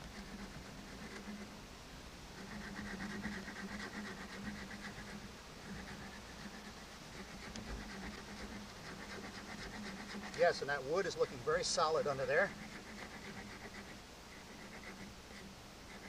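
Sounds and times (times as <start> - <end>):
stone knife sawing wood: 0.0 - 1.5, 2.4 - 16.0.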